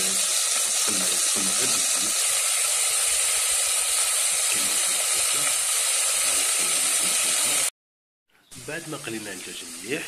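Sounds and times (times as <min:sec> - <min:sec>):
chicken frying in hot oil: 0:00.0 - 0:07.7, 0:08.9 - 0:10.0.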